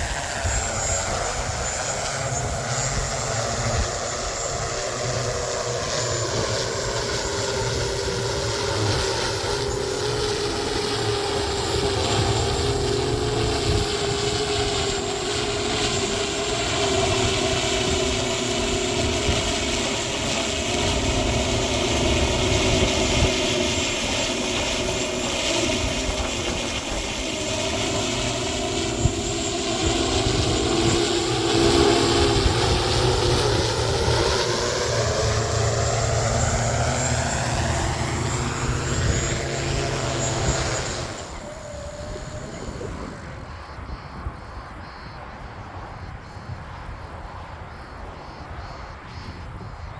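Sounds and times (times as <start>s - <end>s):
aircraft propellers humming: 0.0s - 49.9s
wind rumble on microphone: 0.0s - 49.9s.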